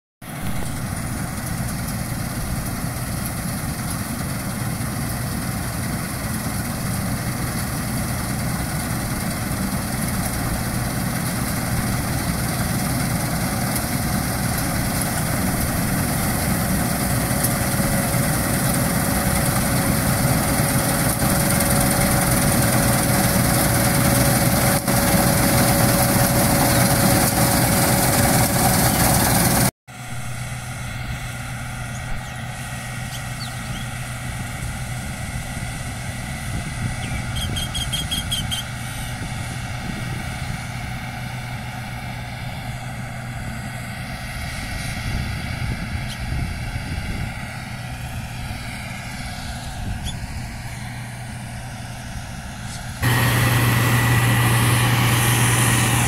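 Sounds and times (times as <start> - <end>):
combine harvester running: 0.2 - 56.0
steady machine whine: 0.3 - 56.0.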